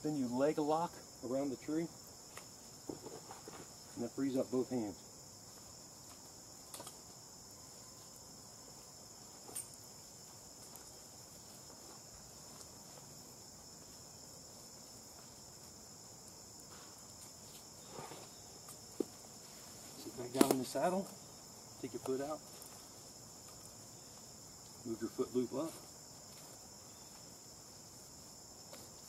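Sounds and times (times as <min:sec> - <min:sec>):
insect chorus: 0:00.0 - 0:29.0.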